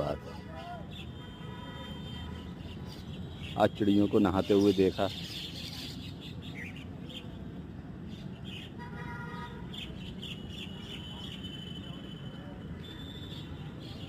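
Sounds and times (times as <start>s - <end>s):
small birds chirping: 0.7s - 1.4s, 2.4s - 12.0s, 12.8s - 14.0s.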